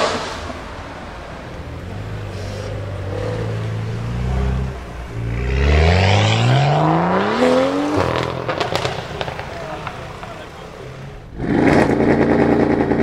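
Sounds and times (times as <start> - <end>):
car engine idling: 0.0 - 7.2, 7.8 - 13.0
car pulling away: 0.0 - 13.0.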